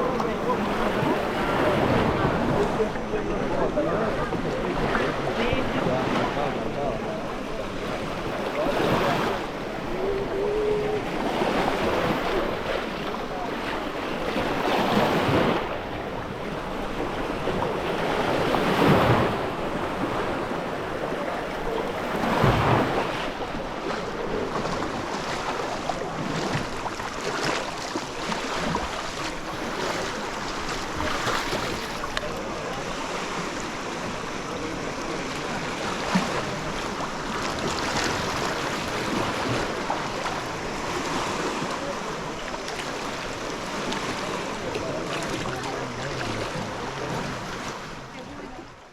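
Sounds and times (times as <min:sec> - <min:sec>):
waves washing onto beach: 0:00.0 - 0:48.9.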